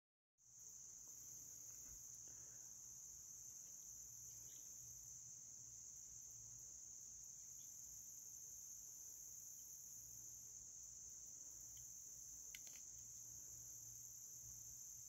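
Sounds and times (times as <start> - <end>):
high-pitched insect chorus: 0.5 - 15.0.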